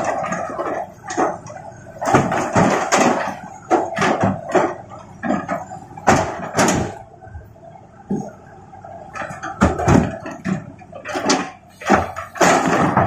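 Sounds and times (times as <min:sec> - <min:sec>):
rocks knocking and clattering: 0:00.0 - 0:07.0, 0:09.1 - 0:13.0.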